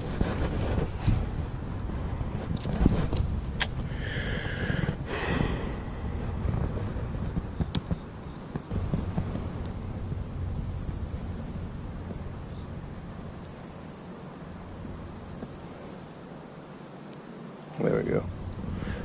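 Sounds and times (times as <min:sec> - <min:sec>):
low rumble: 0:00.0 - 0:16.5, 0:18.0 - 0:19.0
insect trilling: 0:01.2 - 0:19.0.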